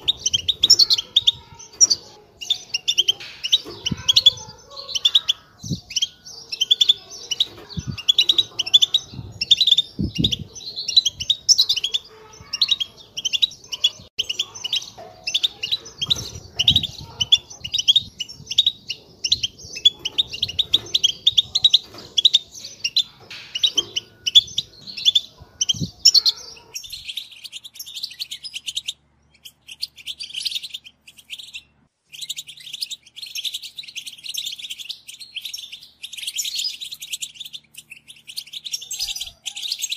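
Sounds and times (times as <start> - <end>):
goldfinches twittering and singing: 0.0 - 39.9.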